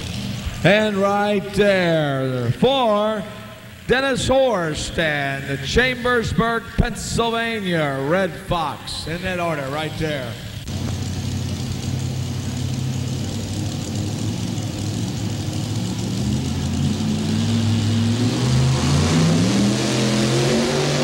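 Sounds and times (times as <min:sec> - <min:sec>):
tractor engine revving: 0:00.0 - 0:21.0.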